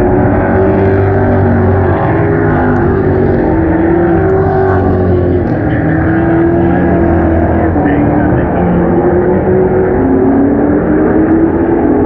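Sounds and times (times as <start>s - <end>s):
race car engines at high revs: 0.0s - 12.0s.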